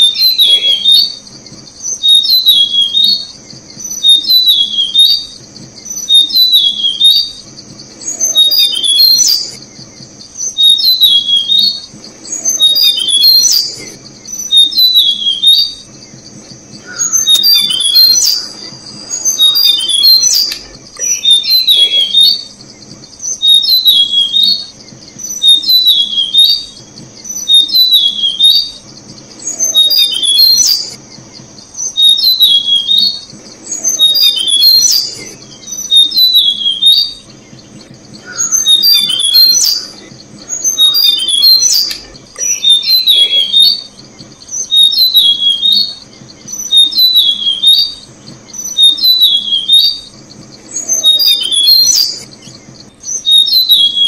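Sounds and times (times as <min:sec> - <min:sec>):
bird calling: 0:00.0 - 0:54.0
high insect drone: 0:00.0 - 0:54.0.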